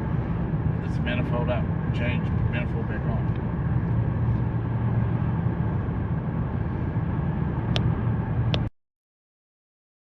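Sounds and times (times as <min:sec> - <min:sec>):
car engine and road noise: 0:00.0 - 0:08.7.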